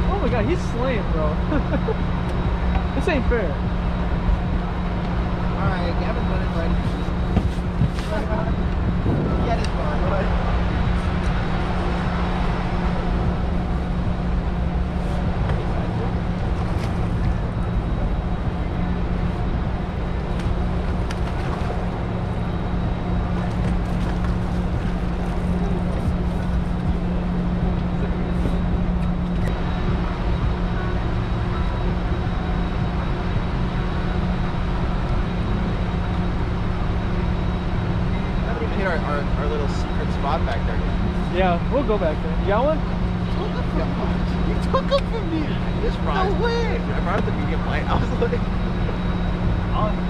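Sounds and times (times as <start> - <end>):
outboard motor running: 0.0 - 50.0
water noise: 0.0 - 50.0
wind: 0.0 - 50.0.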